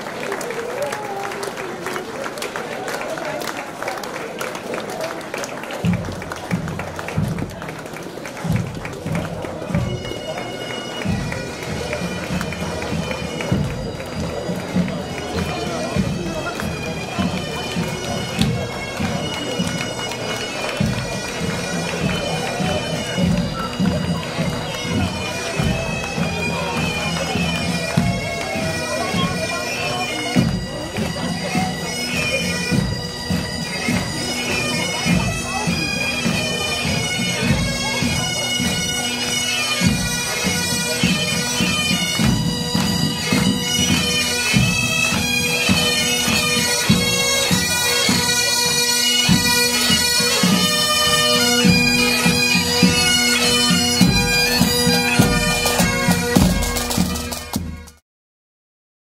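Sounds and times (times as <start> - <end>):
bagpipes playing a march: 0.0 - 58.0
drumbeats: 5.8 - 58.0.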